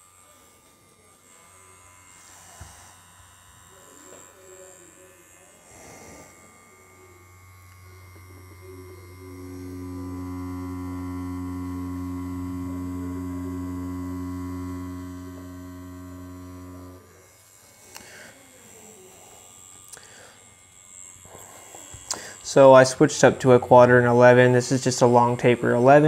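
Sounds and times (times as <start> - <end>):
tattoo machine humming: 0.0 - 26.0.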